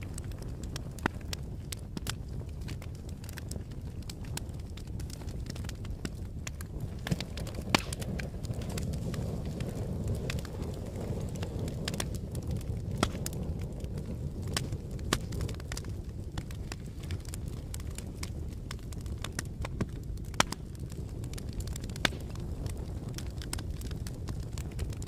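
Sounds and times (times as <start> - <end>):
fire crackling and popping: 0.0 - 25.0
fire rumbling: 0.0 - 25.0.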